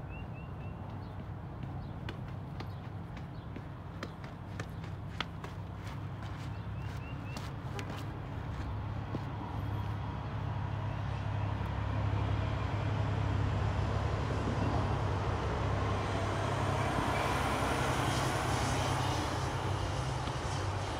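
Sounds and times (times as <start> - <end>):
distant engine hum: 0.0 - 20.9.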